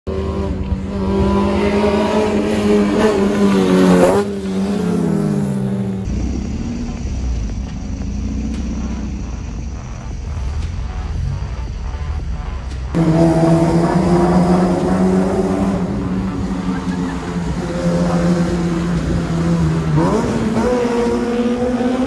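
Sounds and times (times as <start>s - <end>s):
loud car engine revving: 0.0s - 22.0s.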